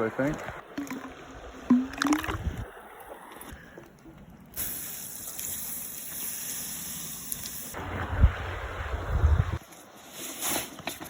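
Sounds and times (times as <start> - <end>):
running water rushing: 0.0 - 9.3.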